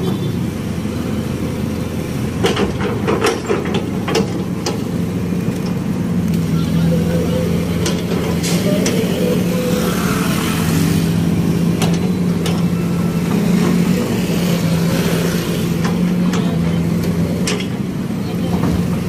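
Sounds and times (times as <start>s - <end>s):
heavy machinery engine running: 0.0s - 19.0s.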